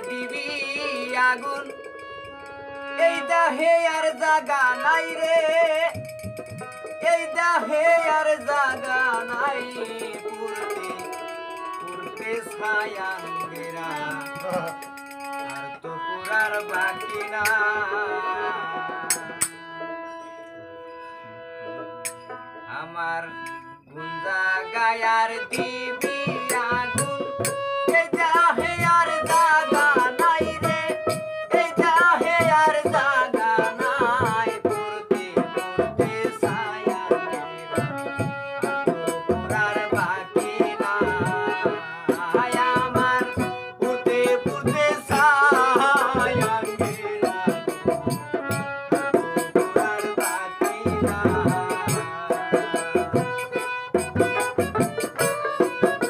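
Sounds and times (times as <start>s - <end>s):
barrel drum rhythm: 0.0s - 17.7s, 18.8s - 19.7s, 25.4s - 56.0s
harmonium: 0.0s - 56.0s.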